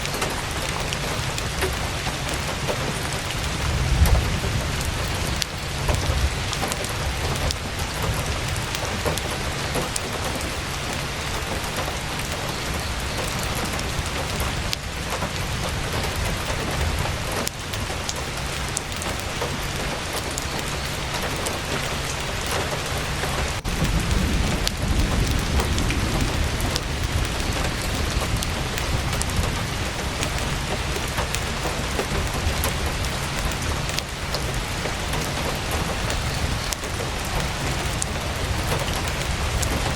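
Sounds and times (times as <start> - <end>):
continuous low rumble: 0.0 - 39.9
heavy rain on tent canvas: 0.0 - 39.9.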